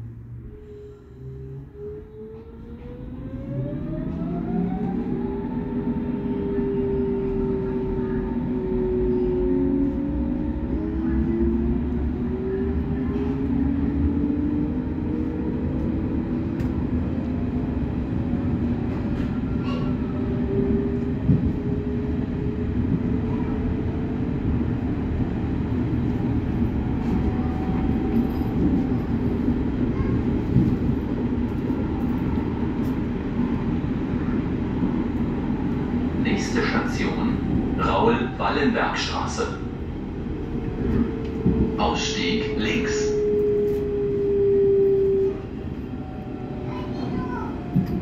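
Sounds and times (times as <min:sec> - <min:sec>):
wheels rumbling on rails: 0:00.0 - 0:48.0.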